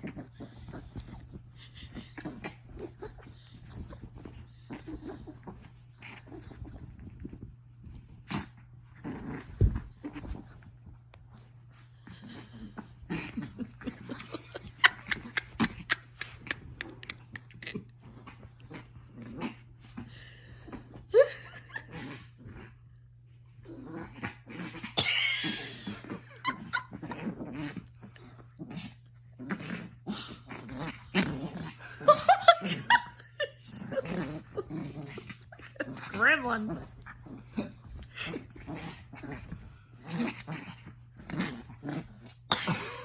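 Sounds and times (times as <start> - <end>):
small dog growling: 0.0 - 21.1, 21.7 - 22.9, 23.5 - 43.0.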